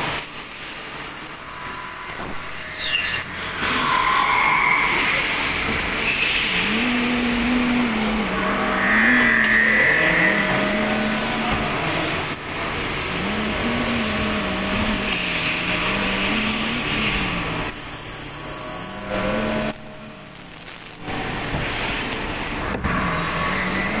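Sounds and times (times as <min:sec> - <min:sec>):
lathe machine hum: 0:03.3 - 0:24.0.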